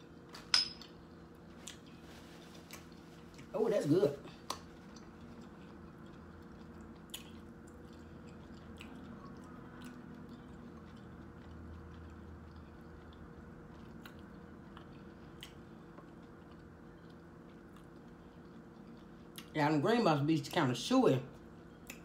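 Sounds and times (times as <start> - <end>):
low steady hum: 0.0 - 22.0
faint chewing: 0.1 - 3.5, 4.1 - 19.6.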